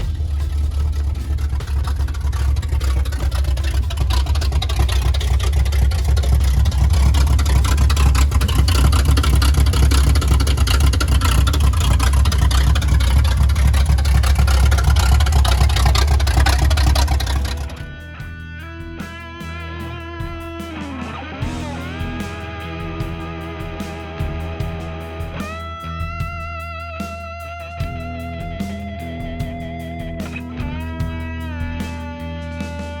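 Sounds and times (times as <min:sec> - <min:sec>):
engine rumbling while warming up: 0:00.0 - 0:33.0.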